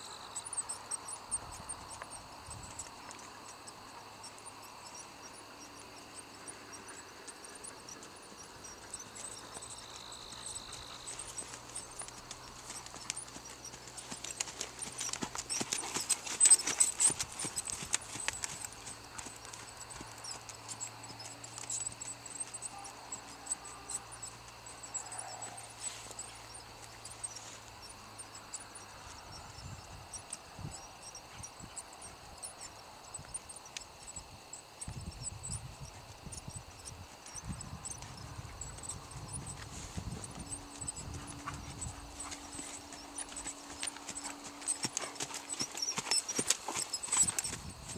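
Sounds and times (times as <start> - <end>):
horse hooves trotting on dirt: 0.0 - 47.9.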